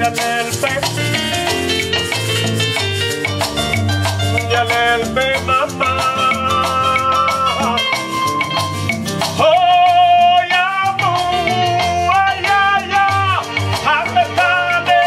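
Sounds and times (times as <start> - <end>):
shaker percussion: 0.0 - 15.0
upbeat band music: 0.0 - 15.0.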